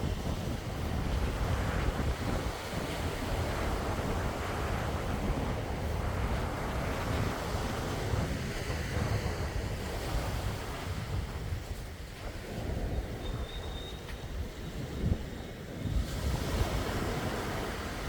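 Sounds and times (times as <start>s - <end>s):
sea waves washing: 0.0s - 13.4s, 14.0s - 18.0s.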